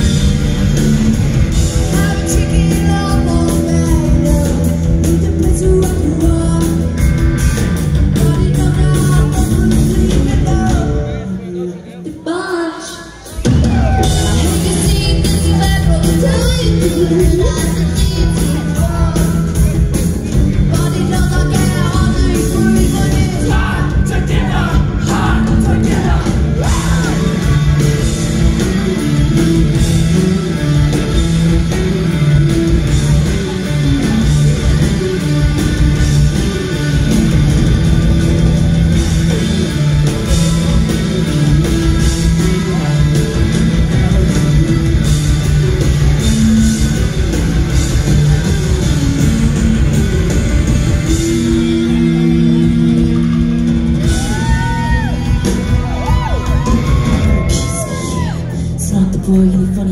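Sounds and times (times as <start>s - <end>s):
bass guitar: 0.0s - 12.0s, 12.8s - 59.9s
electric guitar: 0.0s - 12.0s, 12.8s - 59.9s
drums: 0.0s - 59.9s.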